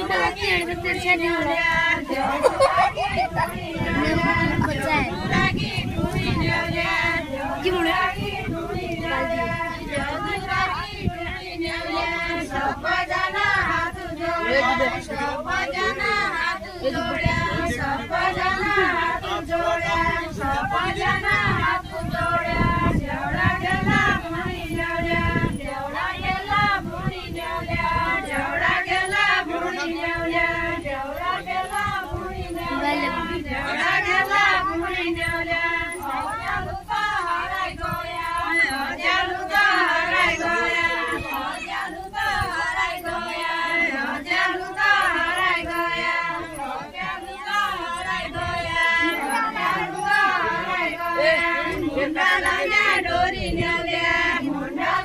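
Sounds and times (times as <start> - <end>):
group of women singing in unison: 0.0 - 55.0.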